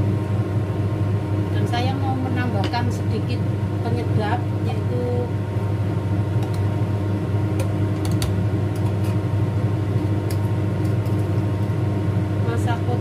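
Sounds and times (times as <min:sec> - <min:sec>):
appliance fan humming: 0:00.0 - 0:13.0.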